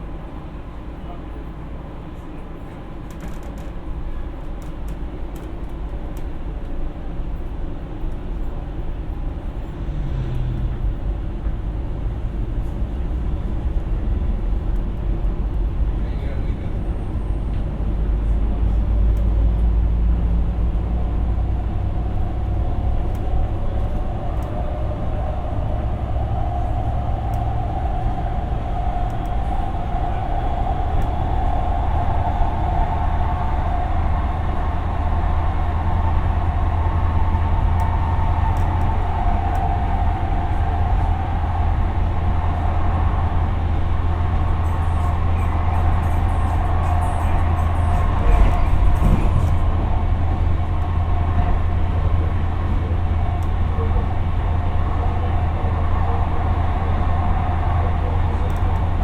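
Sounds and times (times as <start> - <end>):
light rail car running: 0.0 - 59.0.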